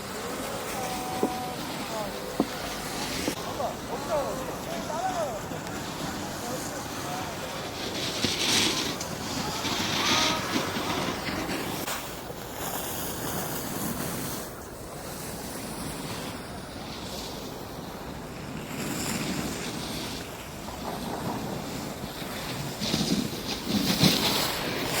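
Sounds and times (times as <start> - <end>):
skis sliding on snow: 0.0 - 25.0.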